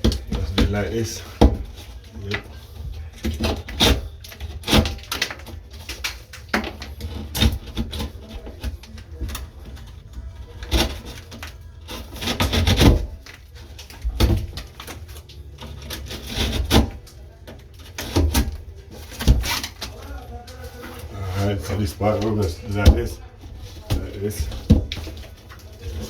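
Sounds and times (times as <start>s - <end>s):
knife scraping sheetrock: 0.0s - 9.4s, 10.5s - 26.0s.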